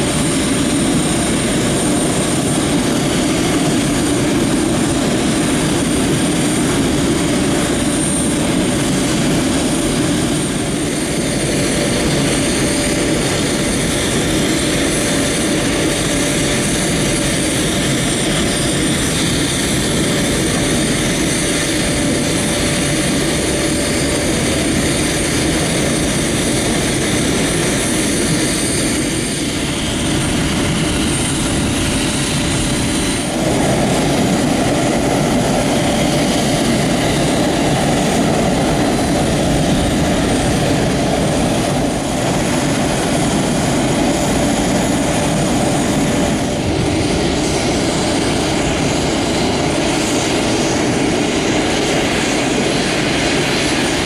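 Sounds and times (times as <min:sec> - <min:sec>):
jet turbine whine: 0:00.0 - 0:54.0.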